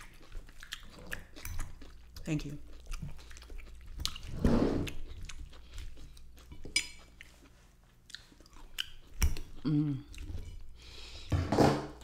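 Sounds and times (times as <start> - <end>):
wet chewing mouth sounds: 0.0 - 10.9.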